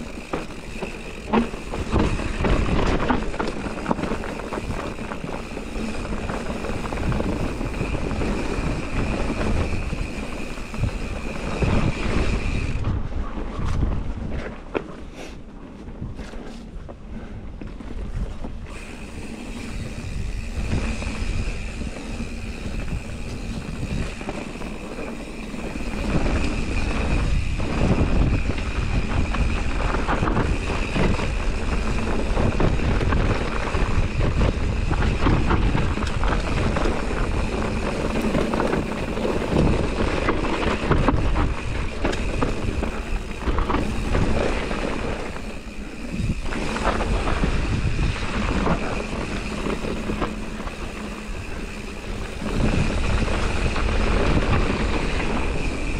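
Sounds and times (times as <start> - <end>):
bike rattling over bumps: 0.0 - 55.9
knobby tyres on dirt: 0.0 - 55.9
wind buffeting microphone: 0.0 - 55.9.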